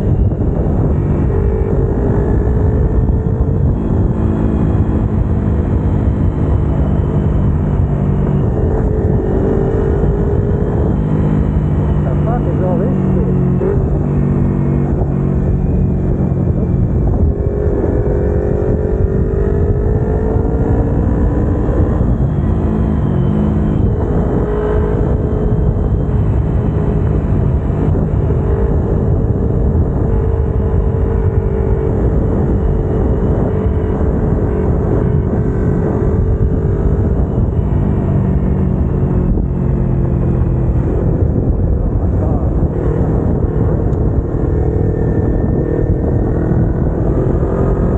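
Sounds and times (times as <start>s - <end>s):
motorcycle engine running: 0.0s - 47.9s
wind noise: 0.0s - 47.9s.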